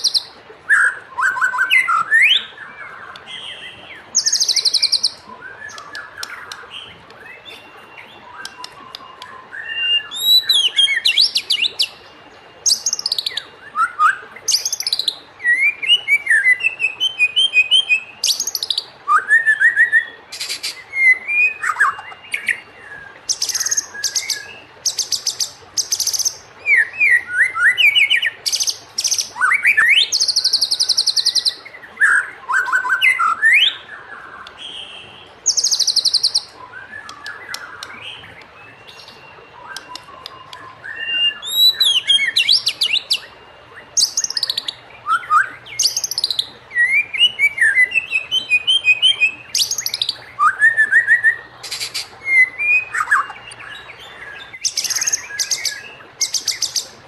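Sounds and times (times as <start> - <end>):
bird whistling song: 0.0 - 57.0.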